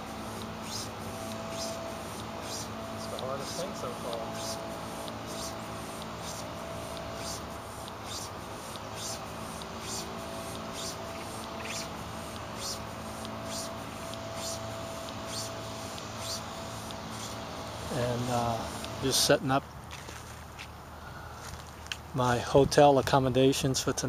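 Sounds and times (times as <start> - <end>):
hand pump air hiss: 0.0 - 19.4
low background hum: 0.0 - 24.0.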